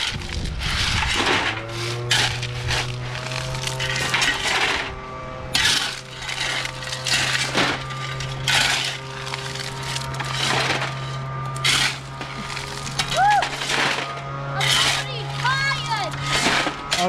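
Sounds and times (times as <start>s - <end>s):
shovel scooping gravel: 0.0s - 17.0s
steady low hum: 0.0s - 17.0s.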